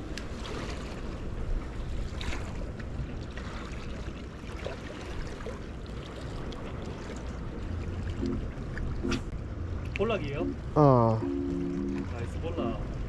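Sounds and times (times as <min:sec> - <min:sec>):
seawater washing on shore: 0:00.0 - 0:09.2, 0:11.4 - 0:13.0.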